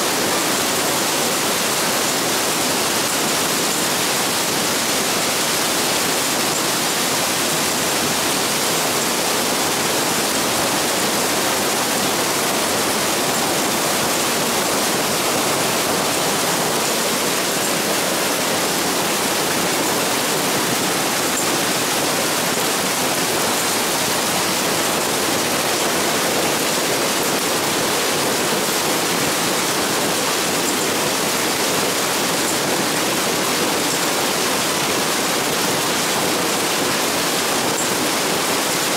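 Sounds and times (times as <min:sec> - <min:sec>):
hail and heavy rain pouring: 0:00.0 - 0:38.9.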